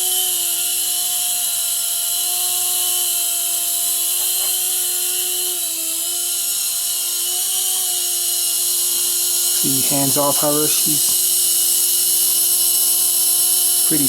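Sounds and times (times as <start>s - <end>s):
toy helicopter motor whine: 0.0s - 14.0s.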